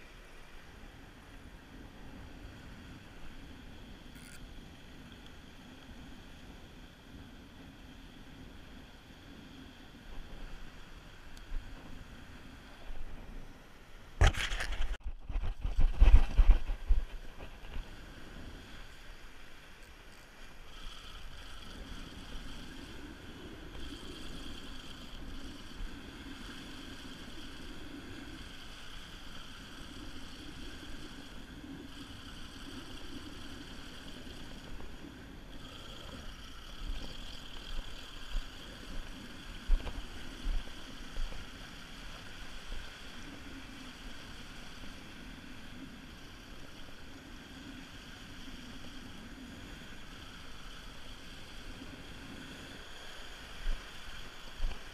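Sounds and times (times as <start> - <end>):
fishing reel whirring: 0.4 - 13.0, 14.2 - 54.9.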